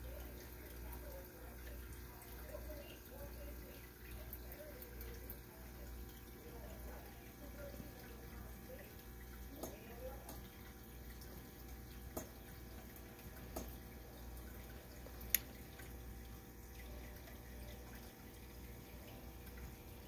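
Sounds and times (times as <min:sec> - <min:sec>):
aquarium water trickling: 0:00.0 - 0:20.0
low pump hum: 0:00.0 - 0:20.0
sharp drips: 0:00.0 - 0:20.0.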